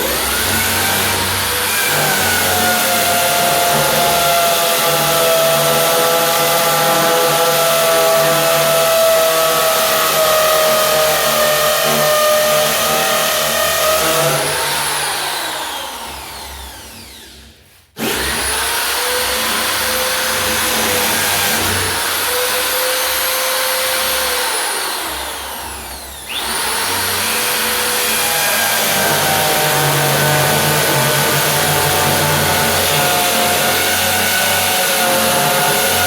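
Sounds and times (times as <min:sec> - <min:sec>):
electric drill whining: 0:00.0 - 0:36.0.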